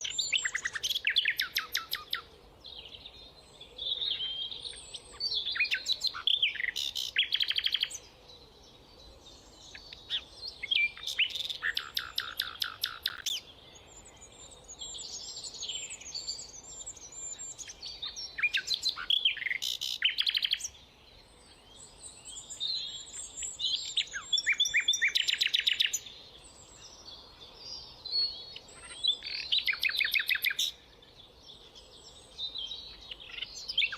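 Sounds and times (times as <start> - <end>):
nightingale singing: 0.0 - 33.9.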